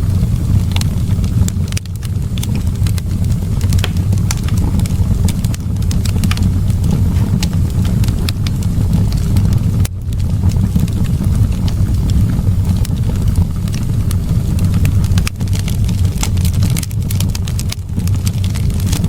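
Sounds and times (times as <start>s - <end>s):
rumble of burning flames: 0.0s - 19.0s
wood fire crackling: 0.0s - 19.0s.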